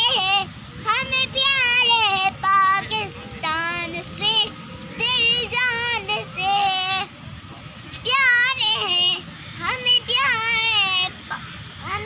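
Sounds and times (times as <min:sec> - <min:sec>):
boy singing unaccompanied: 0:00.0 - 0:07.1, 0:08.0 - 0:12.0.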